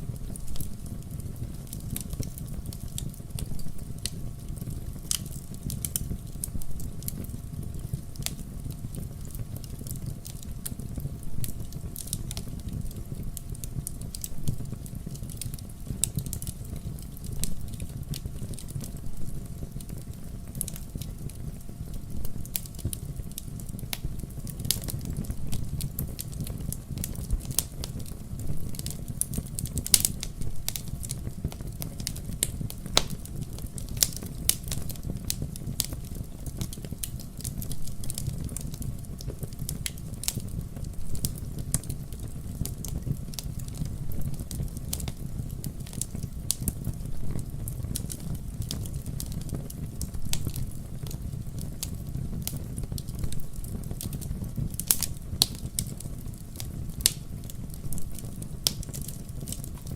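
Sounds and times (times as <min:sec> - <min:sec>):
fire rumbling: 0:00.0 - 0:59.9
logs crackling and popping: 0:00.1 - 0:59.9.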